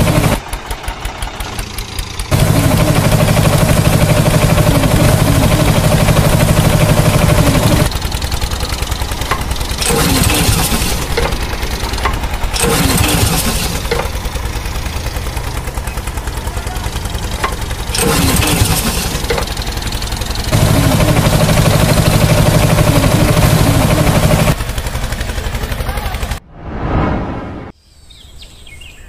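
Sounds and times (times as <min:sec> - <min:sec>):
tractor engine chugging: 0:00.0 - 0:26.4.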